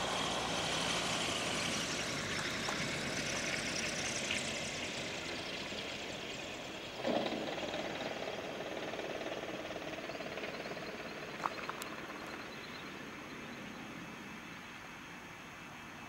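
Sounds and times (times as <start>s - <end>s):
propeller aircraft engine buzz: 0.0s - 13.4s.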